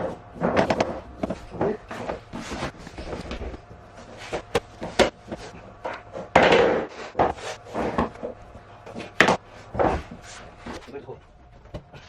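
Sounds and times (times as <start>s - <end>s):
floor plank scraping: 0.0s - 10.9s.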